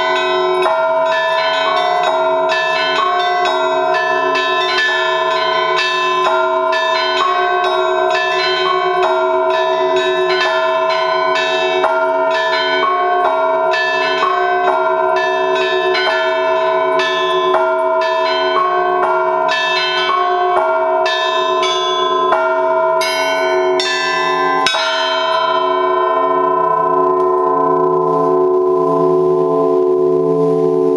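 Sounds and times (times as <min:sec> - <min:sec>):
church bells pealing: 0:00.0 - 0:30.9.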